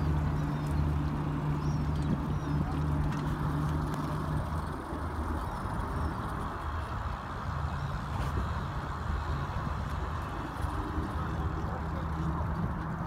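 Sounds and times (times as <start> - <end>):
engine running at low pitch: 0.0 - 13.0.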